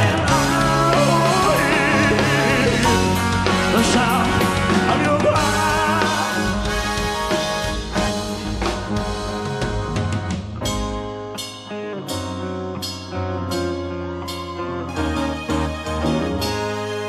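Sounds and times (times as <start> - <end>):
live rock ballad band: 0.0 - 17.0.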